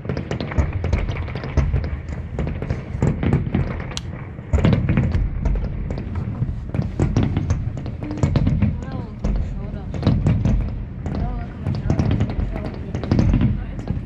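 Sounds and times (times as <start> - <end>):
fireworks crackling bangs: 0.0 - 14.0
low booming fireworks: 0.0 - 14.0.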